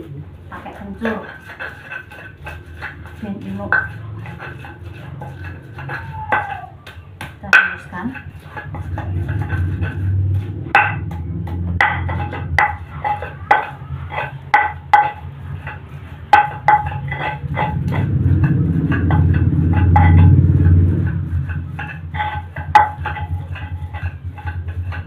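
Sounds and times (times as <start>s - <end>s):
low grinding rumble: 0.0s - 25.0s
pestle knocking in a mortar: 0.6s - 25.0s.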